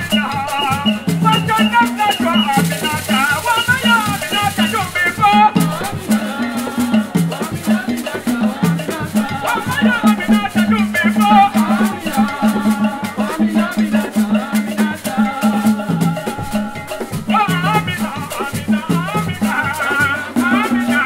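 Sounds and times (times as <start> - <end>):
hand drums beating: 0.0 - 21.0
shakers rattling: 0.0 - 21.0
voices singing: 0.0 - 21.0.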